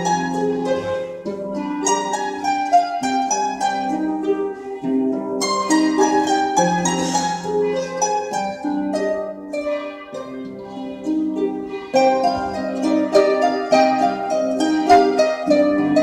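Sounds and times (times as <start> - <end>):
harps playing: 0.0 - 16.0.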